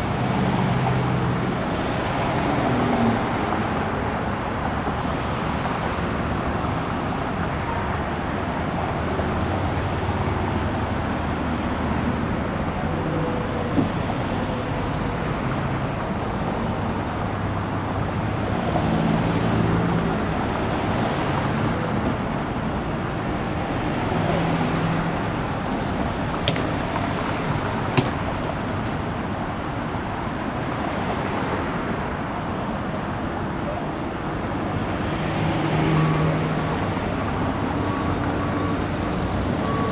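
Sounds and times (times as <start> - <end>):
highway traffic passing: 0.0 - 39.9.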